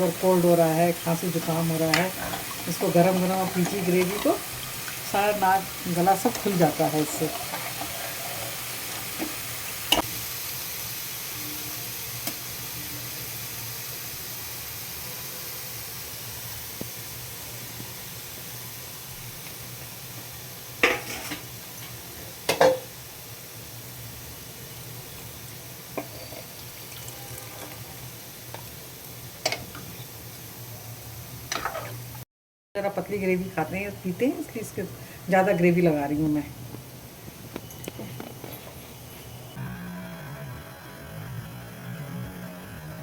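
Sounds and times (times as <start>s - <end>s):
gravy sizzling in a pan: 0.0s - 32.2s, 32.8s - 39.6s.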